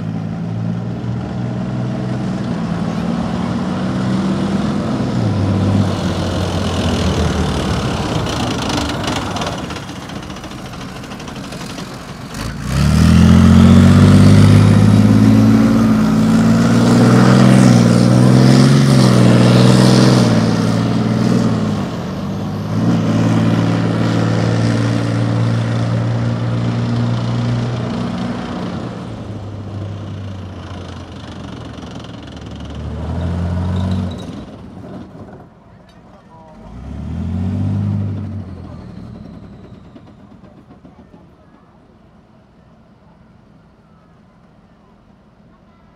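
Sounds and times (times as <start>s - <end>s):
tank diesel engine running: 0.0s - 45.6s.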